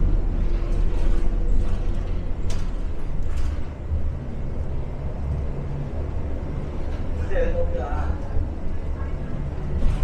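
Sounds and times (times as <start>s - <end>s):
bus interior rumble: 0.0s - 10.0s.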